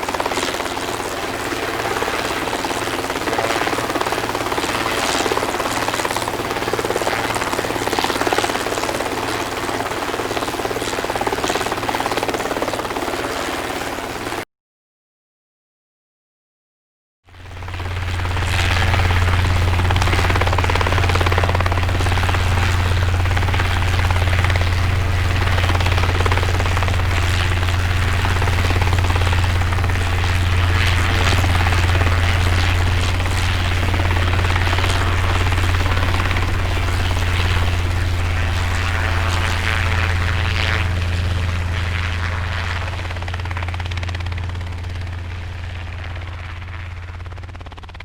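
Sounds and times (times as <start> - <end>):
helicopter rotor and engine: 0.0 - 14.5, 17.3 - 48.0.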